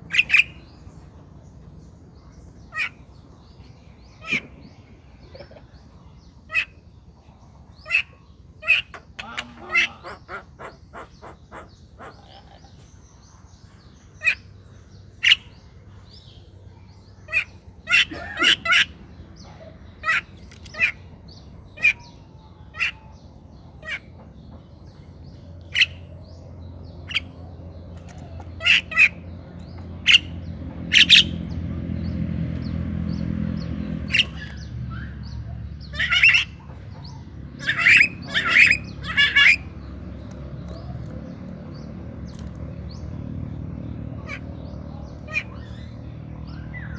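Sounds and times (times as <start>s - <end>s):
birds chirping and squawking: 0.0s - 46.9s.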